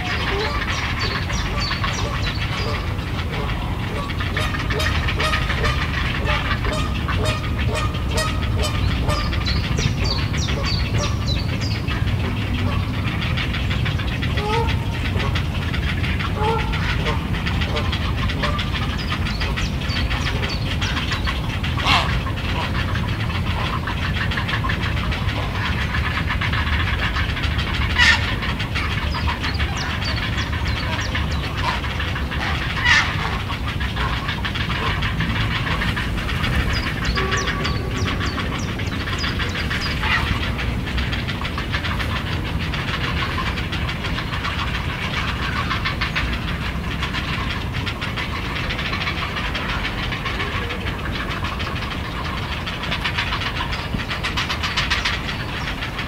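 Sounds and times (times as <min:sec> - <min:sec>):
heron chicks ticking chatter: 0:00.0 - 0:56.0
low rumble: 0:00.0 - 0:56.0.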